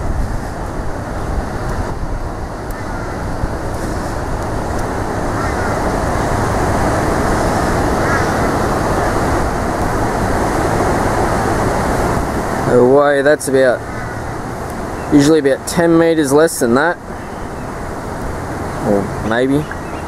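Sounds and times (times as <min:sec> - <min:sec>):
fast-flowing river rushing: 0:00.0 - 0:20.0
wind buffeting microphone: 0:00.0 - 0:20.0.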